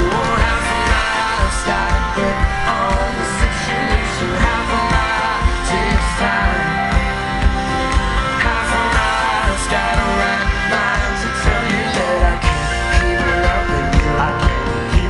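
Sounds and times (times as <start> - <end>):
bass: 0.0 - 15.0
drum beat: 0.0 - 15.0
guitar melody: 0.0 - 15.0.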